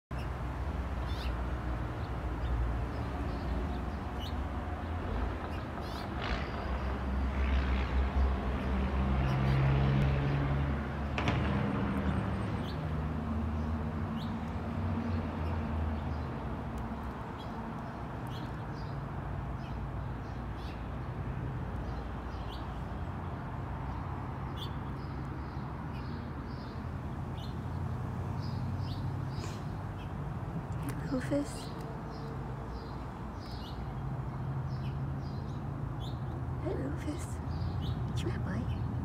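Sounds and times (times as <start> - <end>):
outdoor background hum: 0.1 - 39.0
songbirds chirping: 0.1 - 39.0.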